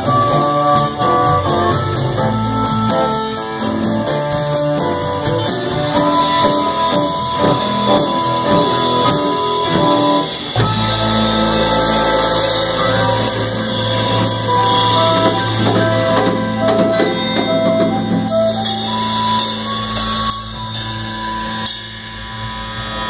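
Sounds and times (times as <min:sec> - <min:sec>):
blues harmonica: 0:00.0 - 0:21.6
drum kit: 0:00.0 - 0:23.0
electric bass: 0:00.0 - 0:23.0
electric guitars: 0:00.0 - 0:23.0.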